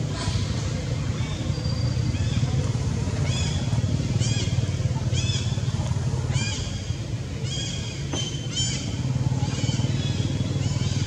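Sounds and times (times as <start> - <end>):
low pulsing motor hum: 0.0 - 11.0.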